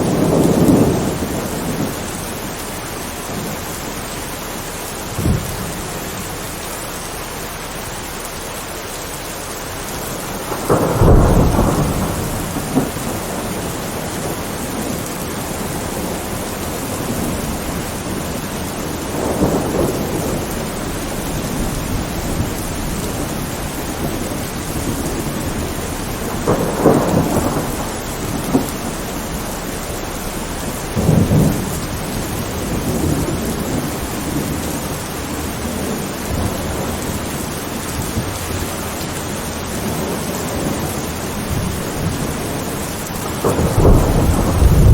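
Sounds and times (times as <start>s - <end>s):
thunder rumbling: 0.0s - 8.0s, 9.4s - 44.9s
steady rain: 0.0s - 44.9s.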